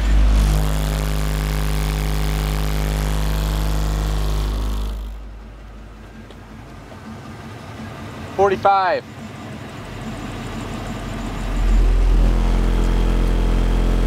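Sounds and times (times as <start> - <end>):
deep bass test tone: 0.0 - 14.0.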